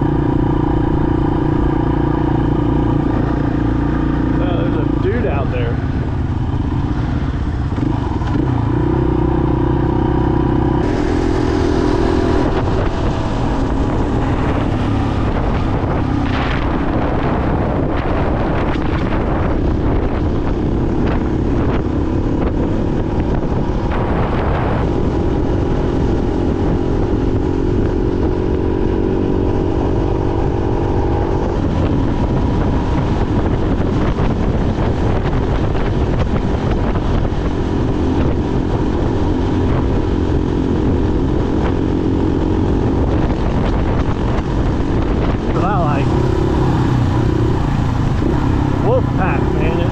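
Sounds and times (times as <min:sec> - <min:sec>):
motorcycle engine running: 0:00.0 - 0:49.9
wind rumble on microphone: 0:00.0 - 0:49.9.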